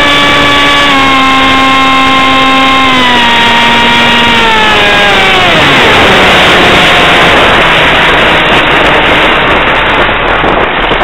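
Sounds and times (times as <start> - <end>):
faint motor whine: 0.0 - 11.0
wind rushing across microphone: 0.0 - 11.0.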